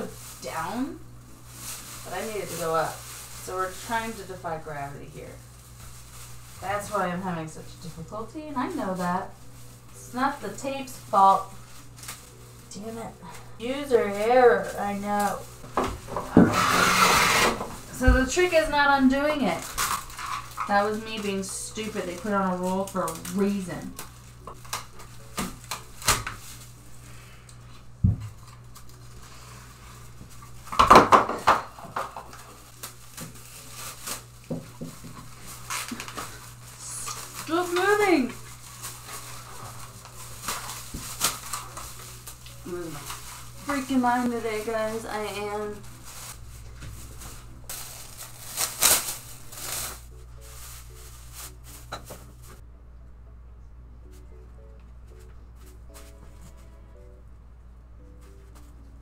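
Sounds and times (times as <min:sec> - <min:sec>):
plastic crinkling rustle: 0:00.0 - 0:52.6, 0:55.1 - 0:56.8
soft background music: 0:00.0 - 0:59.0.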